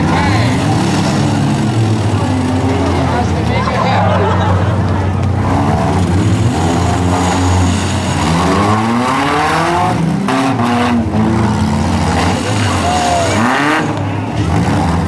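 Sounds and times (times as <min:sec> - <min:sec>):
car engines revving hard: 0:00.0 - 0:15.0.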